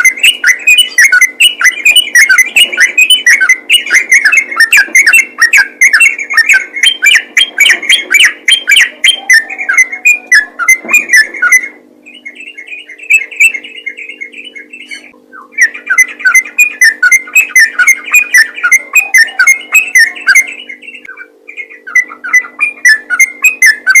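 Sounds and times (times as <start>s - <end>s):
bird singing chattering notes: 0.0s - 24.0s.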